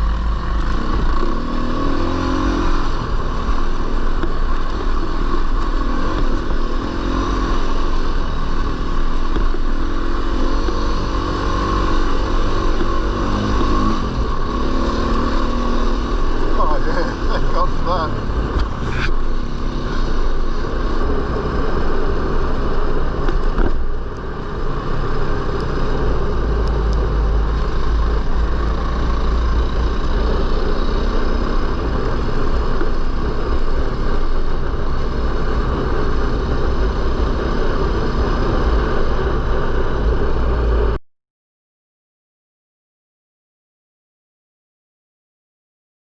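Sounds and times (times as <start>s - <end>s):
dirt bike engine running: 0.0s - 41.0s.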